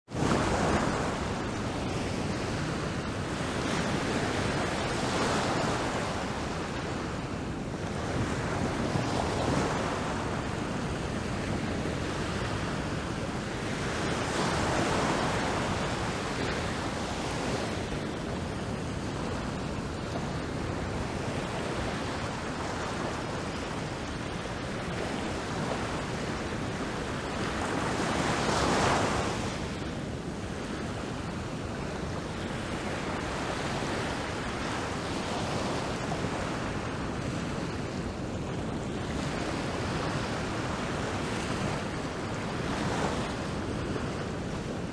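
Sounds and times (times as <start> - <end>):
ocean waves breaking: 0.1 - 44.9.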